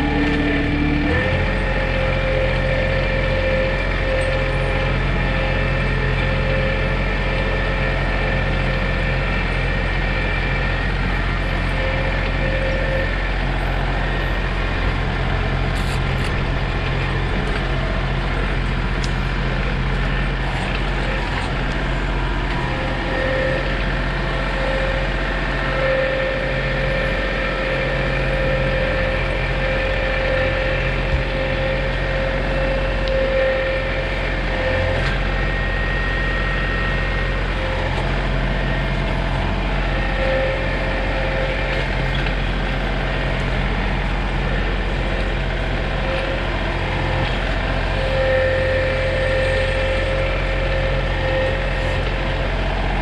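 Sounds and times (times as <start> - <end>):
thin whine: 0.0 - 53.0
tractor diesel engine running: 0.0 - 53.0.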